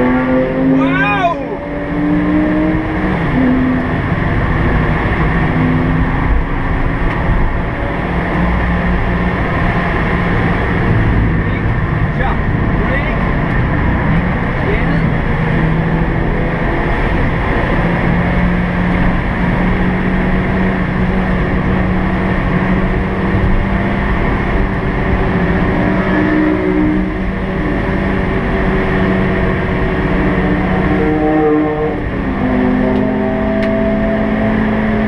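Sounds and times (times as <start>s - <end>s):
car engine running hard: 0.0s - 35.0s.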